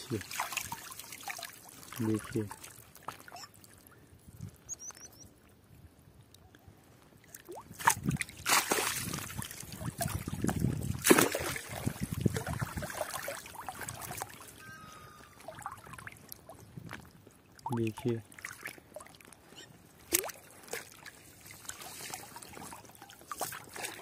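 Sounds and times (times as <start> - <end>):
water sloshing and splashing: 0.0 - 4.8, 7.1 - 24.0.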